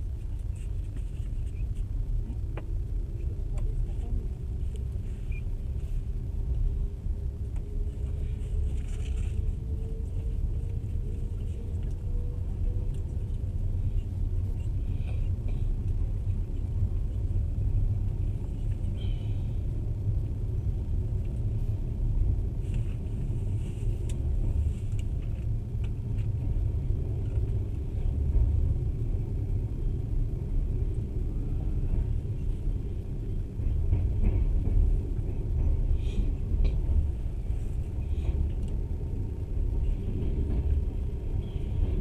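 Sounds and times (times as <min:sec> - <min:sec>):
freight train passing alongside: 0:00.0 - 0:42.0
train wheels rumbling on rails: 0:00.0 - 0:42.0.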